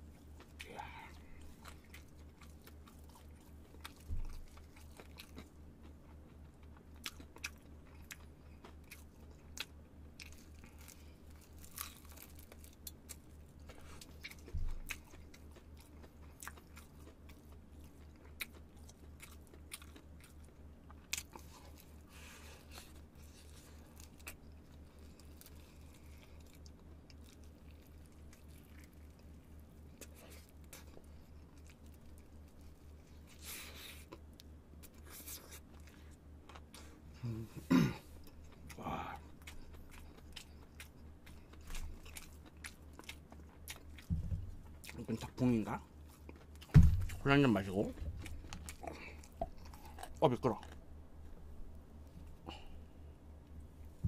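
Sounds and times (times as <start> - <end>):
crunchy chewing of fried chicken: 0.0 - 54.0
low steady hum: 0.0 - 54.0.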